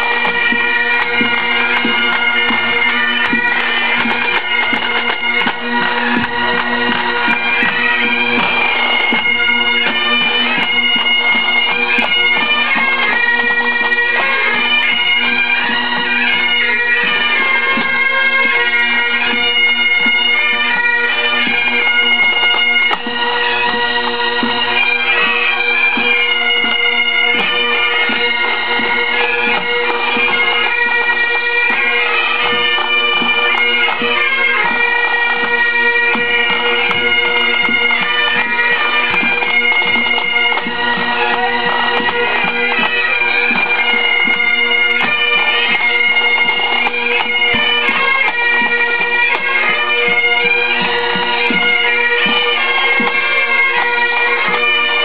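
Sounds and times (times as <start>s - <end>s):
drums keeping time: 0.0s - 20.4s, 21.4s - 53.8s
bagpipes playing a tune: 0.0s - 55.0s.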